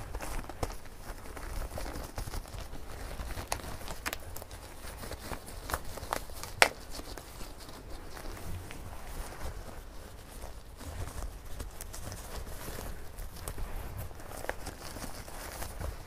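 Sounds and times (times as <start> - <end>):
rubber gloves rustling and snapping: 0.0 - 16.0.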